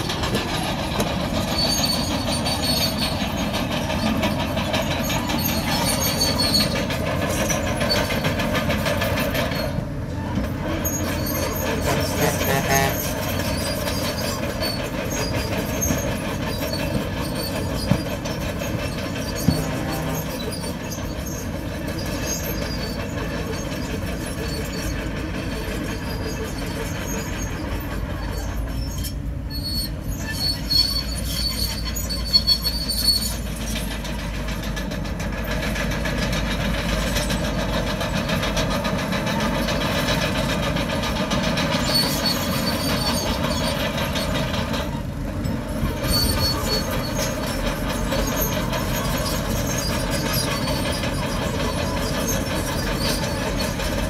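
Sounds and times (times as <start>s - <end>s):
bulldozer diesel engine running: 0.0s - 54.0s
steel tracks squealing and clanking: 0.0s - 54.0s.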